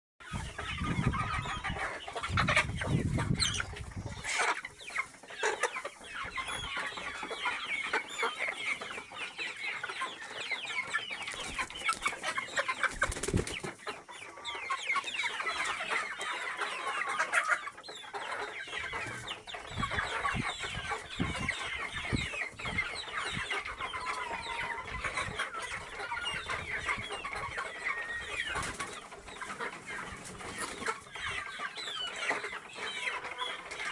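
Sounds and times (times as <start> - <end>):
chickens clucking: 0.2 - 33.9.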